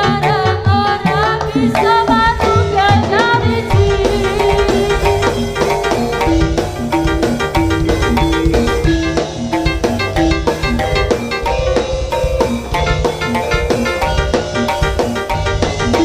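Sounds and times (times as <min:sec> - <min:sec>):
hand drums beating quickly: 0:00.7 - 0:16.0
wavering high melody: 0:01.1 - 0:16.0
heavy bass beat: 0:02.1 - 0:16.0.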